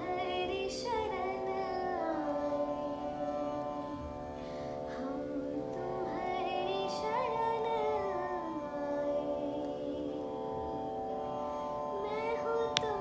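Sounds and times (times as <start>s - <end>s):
girl singing softly: 0.0s - 11.0s, 11.9s - 13.0s
sustained accompaniment chords: 0.0s - 13.0s.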